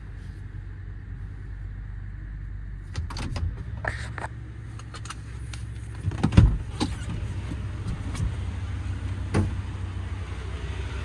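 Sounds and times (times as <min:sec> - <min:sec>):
truck engine humming: 0:00.0 - 0:11.0.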